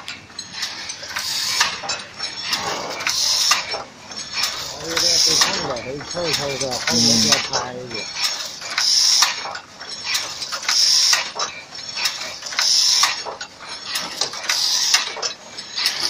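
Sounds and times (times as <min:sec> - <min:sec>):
metal clicking and clattering: 0:00.0 - 0:16.0.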